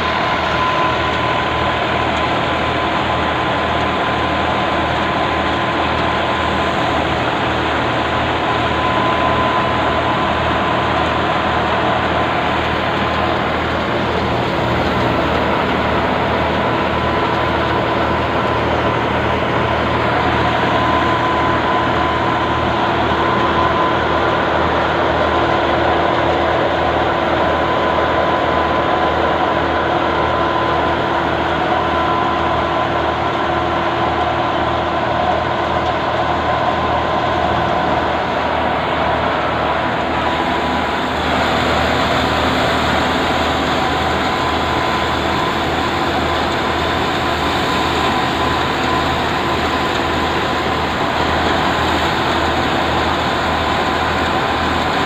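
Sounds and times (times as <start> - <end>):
thresher and tractor engine running: 0.0 - 55.0.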